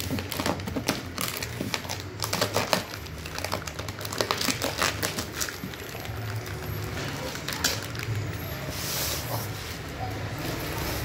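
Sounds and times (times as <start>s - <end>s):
plastic wrap crackling and tearing: 0.0s - 11.0s.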